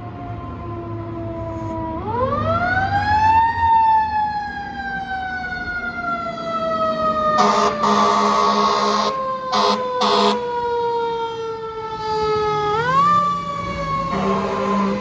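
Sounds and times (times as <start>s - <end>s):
fire engine siren: 0.0s - 15.0s
truck engine rumble: 0.0s - 15.0s.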